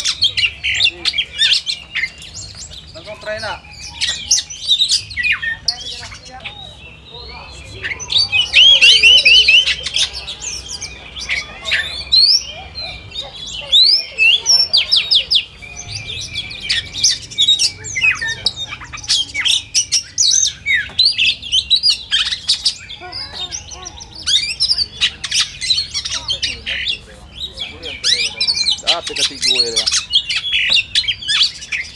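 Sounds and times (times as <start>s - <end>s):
birds singing: 0.0s - 31.9s.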